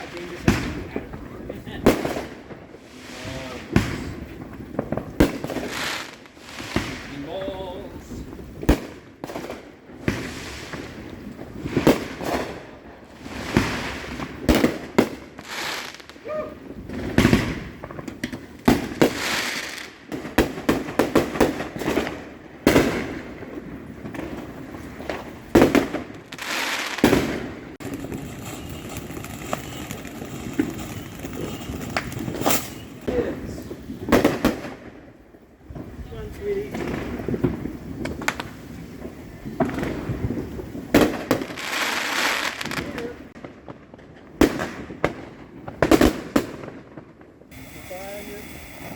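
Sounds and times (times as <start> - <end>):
fireworks bangs and pops: 0.0 - 48.9.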